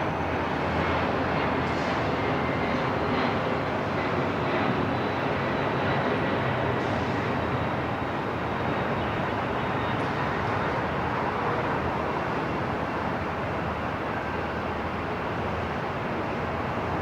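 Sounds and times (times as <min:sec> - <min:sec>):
rushing noise of airport: 0:00.0 - 0:17.0.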